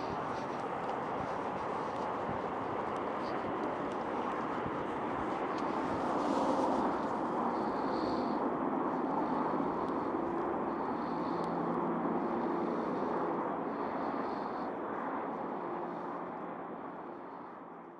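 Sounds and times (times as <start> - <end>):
highway traffic rushing: 0.0 - 16.1.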